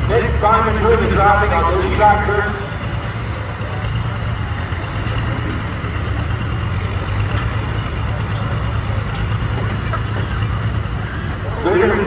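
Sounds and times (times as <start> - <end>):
high whine: 0.0 - 12.0
truck engine running: 0.0 - 12.0.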